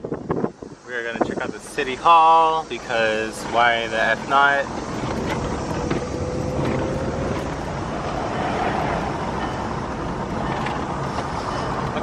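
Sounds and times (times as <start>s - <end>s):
engine hum: 0.0s - 12.0s
tyre and road noise: 0.0s - 12.0s.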